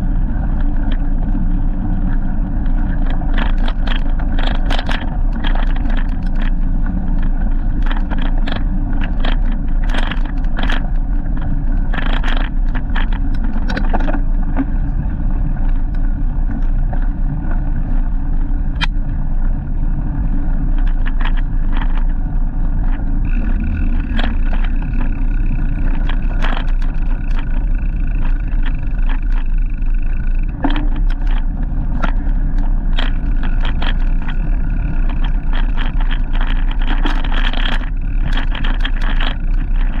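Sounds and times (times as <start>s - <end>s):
rattling clicks and knocks: 0.0s - 19.0s, 20.7s - 40.0s
steady high whine: 0.0s - 40.0s
wind rumble on microphone: 0.0s - 40.0s.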